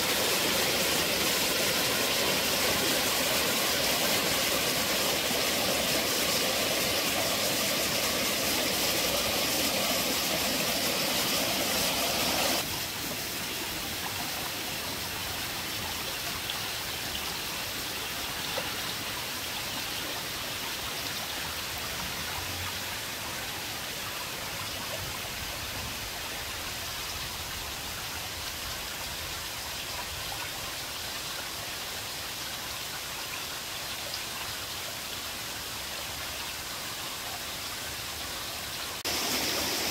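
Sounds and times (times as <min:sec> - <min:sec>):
small waterfall splashing: 0:00.0 - 0:39.9
stream running over stones: 0:00.0 - 0:39.9.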